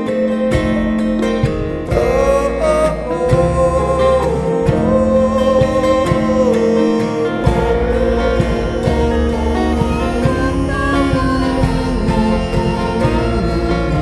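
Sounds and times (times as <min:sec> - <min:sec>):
acoustic guitar: 0:00.0 - 0:14.0
person singing long notes: 0:00.0 - 0:14.0.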